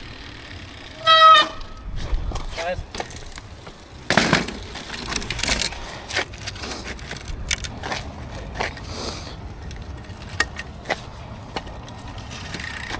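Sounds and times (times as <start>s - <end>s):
bike knocking and rattling: 0.0s - 12.9s
tyres rumbling on rough ground: 0.0s - 12.9s.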